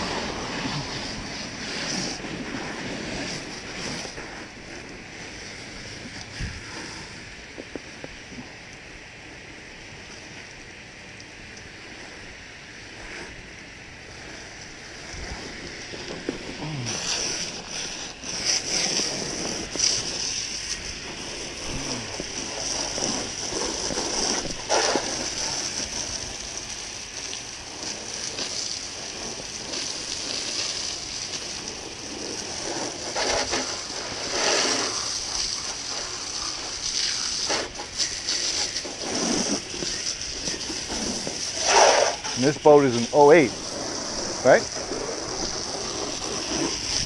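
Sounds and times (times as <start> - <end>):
hose spraying water on metal boat: 0.0 - 47.0.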